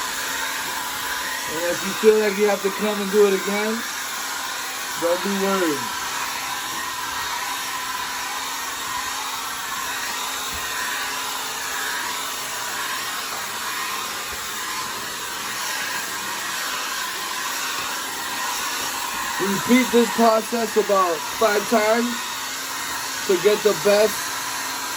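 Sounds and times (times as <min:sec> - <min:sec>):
blow dryer running: 0:00.0 - 0:24.9.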